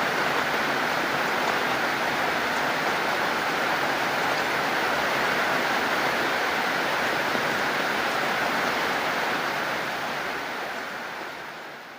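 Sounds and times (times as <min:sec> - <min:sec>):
heavy rain falling: 0:00.0 - 0:11.9.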